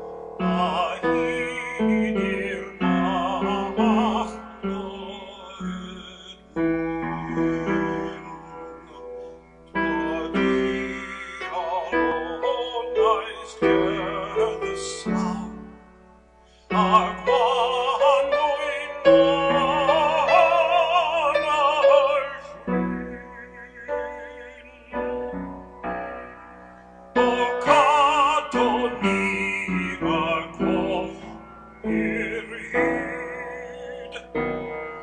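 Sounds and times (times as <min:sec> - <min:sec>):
man singing a hymn: 0:00.0 - 0:15.9, 0:16.5 - 0:25.6, 0:27.1 - 0:35.0
piano accompaniment: 0:00.0 - 0:35.0.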